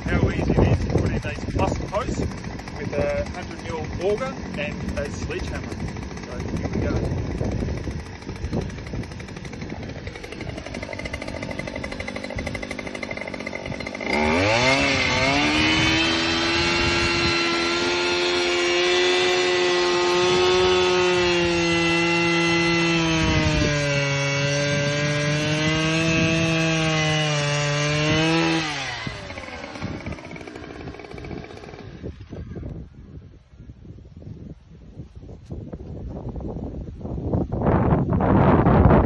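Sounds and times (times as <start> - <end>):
petrol auger engine: 0.0 - 32.6.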